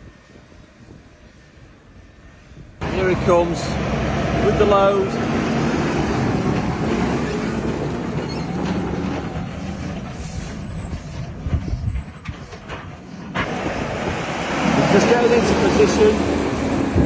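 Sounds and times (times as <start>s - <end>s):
tractor engine running: 2.8s - 17.0s.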